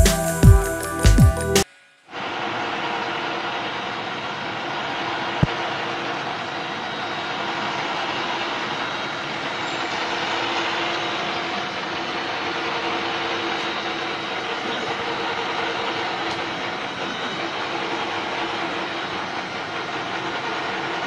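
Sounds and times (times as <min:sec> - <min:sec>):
metal-cutting machine running: 0:02.2 - 0:21.0.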